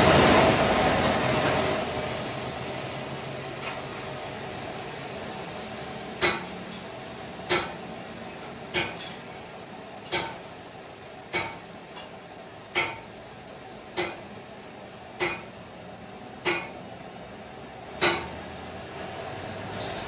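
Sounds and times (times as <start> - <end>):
machinery high-pitched squeal: 0.0 - 20.0
repeating machine knock: 0.5 - 18.3.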